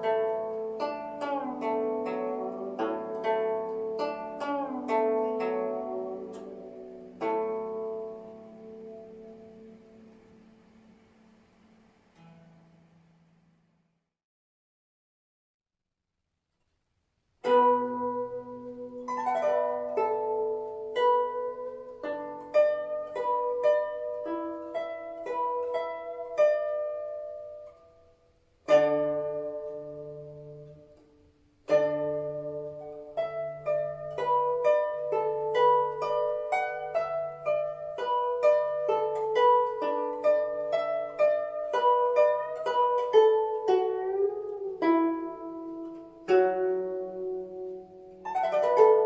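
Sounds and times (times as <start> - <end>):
plucked zither melody: 0.0 - 13.8, 17.4 - 49.0.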